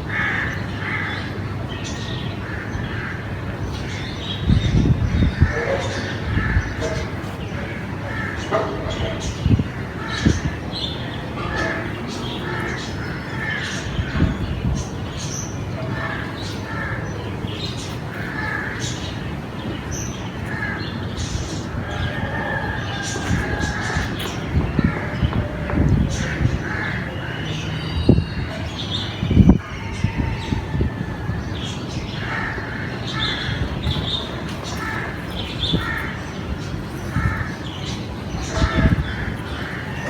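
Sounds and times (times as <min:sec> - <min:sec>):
crows cawing: 0:00.0 - 0:01.4, 0:02.4 - 0:03.4, 0:05.2 - 0:27.4, 0:29.6 - 0:40.0.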